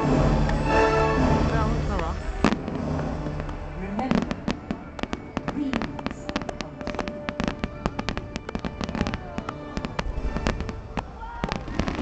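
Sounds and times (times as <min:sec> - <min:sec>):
fireworks bursting and crackling: 0:00.0 - 0:12.0
music playing: 0:00.0 - 0:12.0.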